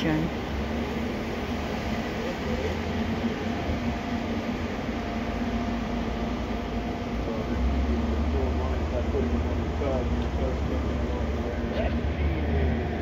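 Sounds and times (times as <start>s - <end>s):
ship machinery hum: 0.0s - 13.0s.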